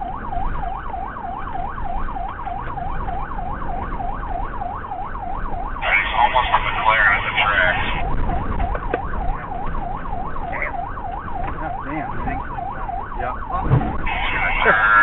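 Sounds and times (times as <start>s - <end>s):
police siren yelping: 0.0s - 15.0s.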